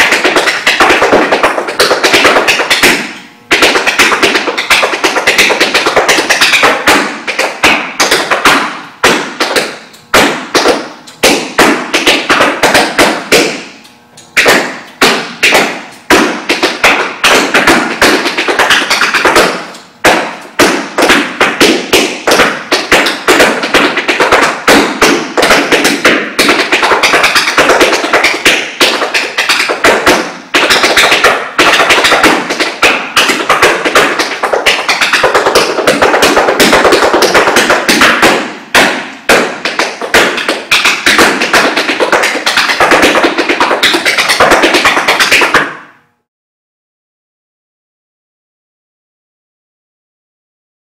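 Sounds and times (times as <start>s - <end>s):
tap shoes on hardwood floor: 0.0s - 13.7s, 14.4s - 45.8s.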